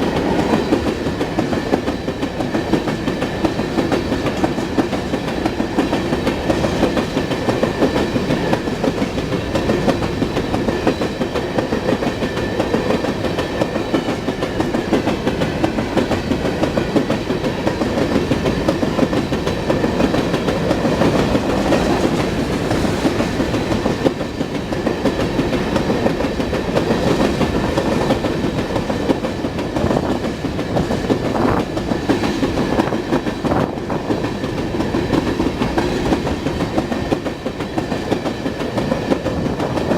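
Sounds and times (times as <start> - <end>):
high whine from train wheels: 0.0 - 39.9
train wheels clacking over rail joints: 0.0 - 39.9.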